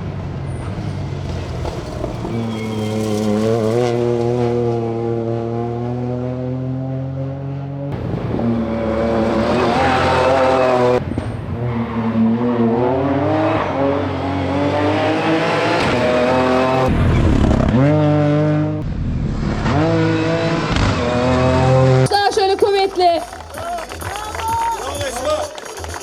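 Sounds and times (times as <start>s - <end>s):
rally car engine revving: 0.0s - 22.3s.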